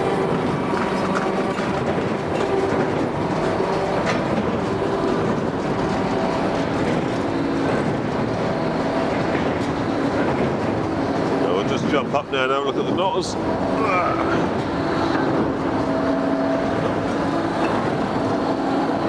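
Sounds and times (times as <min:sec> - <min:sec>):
baler machinery clattering: 0:00.0 - 0:19.0.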